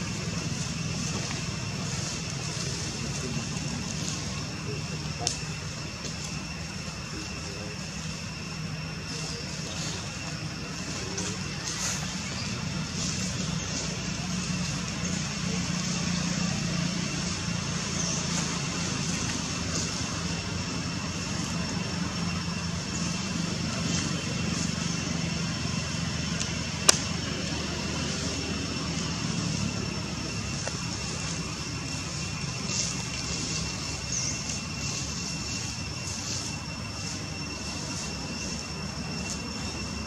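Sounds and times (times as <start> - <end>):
low engine-like rumble: 0.0 - 40.0
thin high whines: 0.0 - 40.0.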